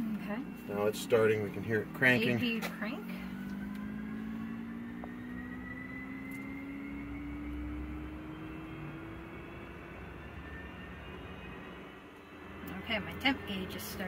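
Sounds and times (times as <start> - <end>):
auxiliary power unit whine: 0.0 - 14.0.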